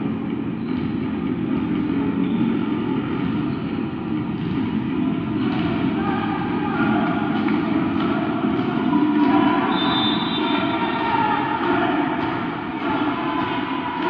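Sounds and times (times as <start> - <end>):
sports hall room hum: 0.0 - 14.0.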